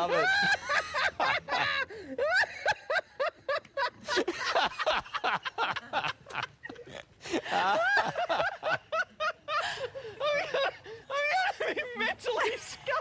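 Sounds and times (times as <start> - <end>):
people yelping and laughing: 0.0 - 13.0.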